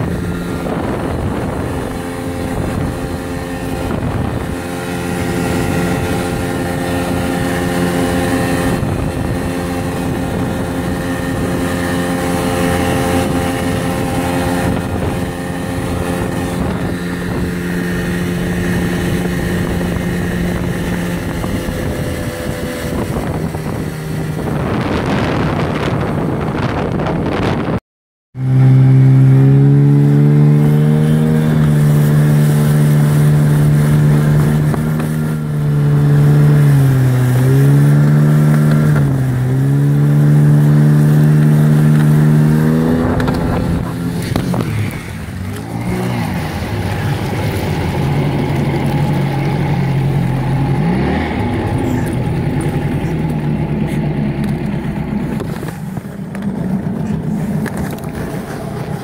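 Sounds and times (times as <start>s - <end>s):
outboard motor running: 0.0s - 27.8s, 28.4s - 59.0s.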